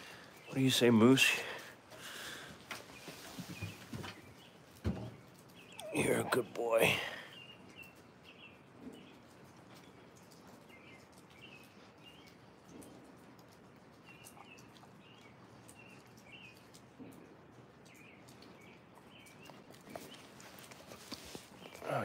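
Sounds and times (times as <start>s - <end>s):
light steady hiss: 0.0s - 22.0s
small bird chirping: 2.9s - 22.0s.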